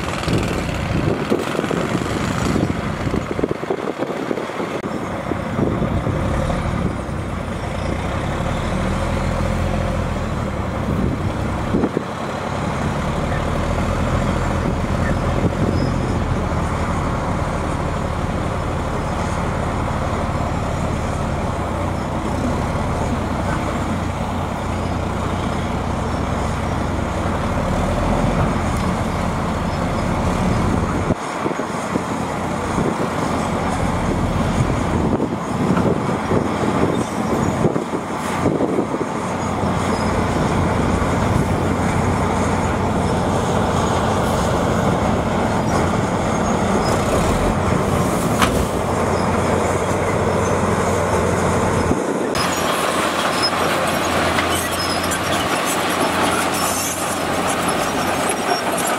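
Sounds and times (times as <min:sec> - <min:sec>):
bulldozer engine: 0:00.0 - 0:58.9
diesel truck engine running: 0:00.0 - 0:58.9.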